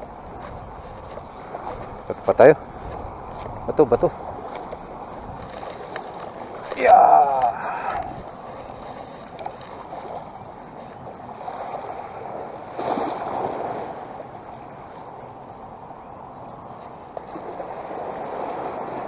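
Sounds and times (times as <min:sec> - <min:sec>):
small waves lapping on shore: 0:00.0 - 0:19.0.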